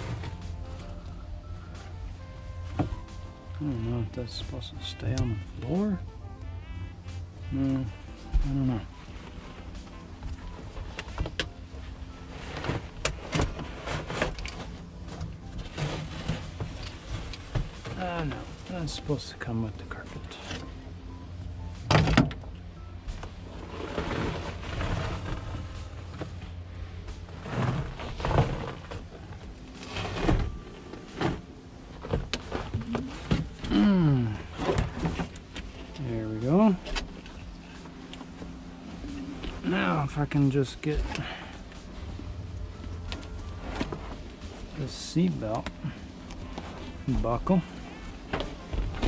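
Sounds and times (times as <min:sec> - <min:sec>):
carpet dragging and crackling: 0:00.0 - 0:05.9, 0:07.5 - 0:20.8, 0:23.0 - 0:49.0.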